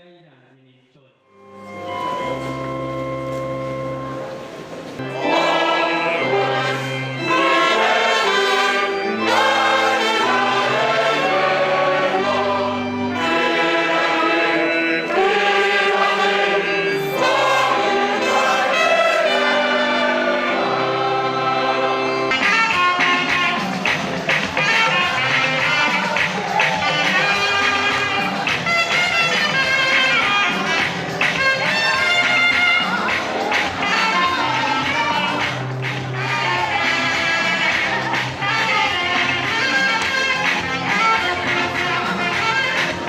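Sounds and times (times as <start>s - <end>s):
brass playing: 1.3s - 43.0s
choir singing held chords: 5.0s - 43.0s.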